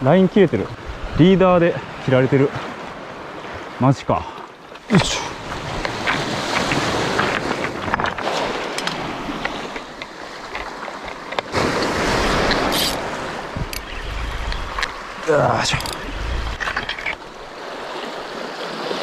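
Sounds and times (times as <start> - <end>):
sea waves washing over rocks: 0.3 - 19.0.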